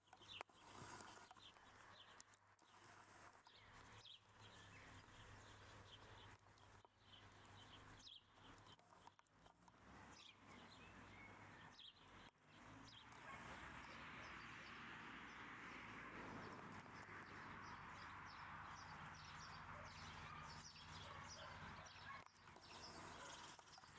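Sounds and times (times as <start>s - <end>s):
small birds chirping: 0.0s - 15.5s, 16.2s - 23.9s.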